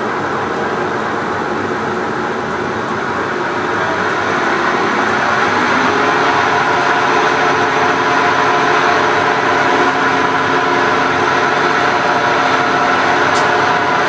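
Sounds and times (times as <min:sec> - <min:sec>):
milling machine gear whine: 0:00.0 - 0:14.0.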